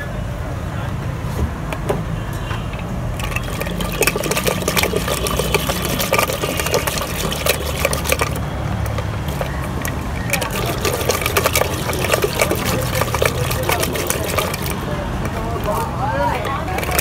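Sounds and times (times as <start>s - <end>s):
liquid sloshing in pot: 3.1s - 17.0s.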